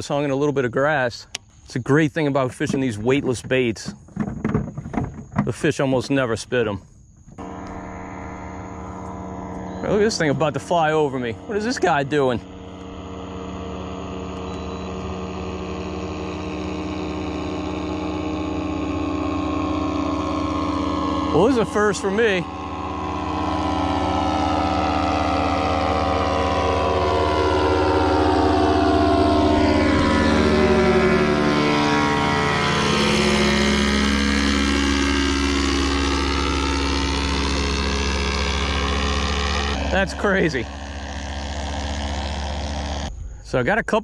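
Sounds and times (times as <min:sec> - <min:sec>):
propeller airplane engine drone: 0:00.0 - 0:44.0.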